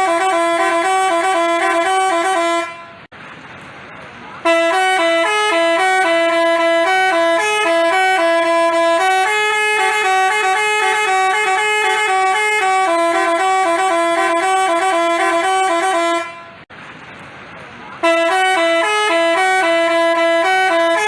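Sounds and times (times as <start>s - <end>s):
bus horn playing a melody: 0.0s - 3.1s, 4.4s - 16.7s, 18.0s - 21.0s.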